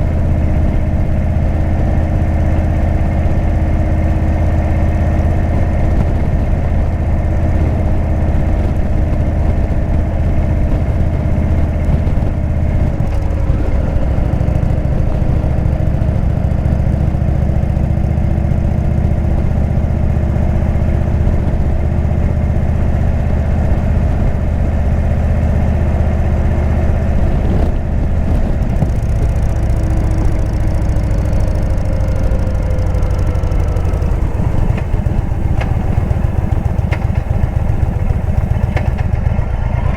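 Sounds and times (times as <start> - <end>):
motorcycle engine idling low: 0.0 - 39.9.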